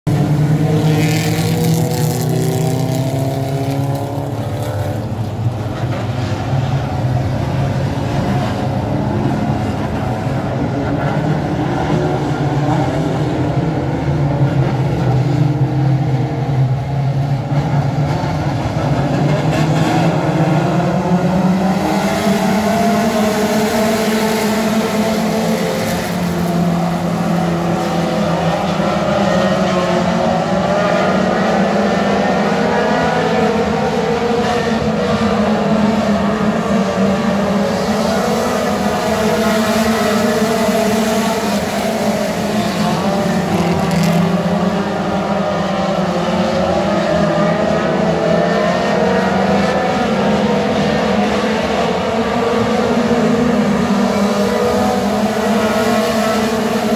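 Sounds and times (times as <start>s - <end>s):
race car engines: 0.0s - 56.9s.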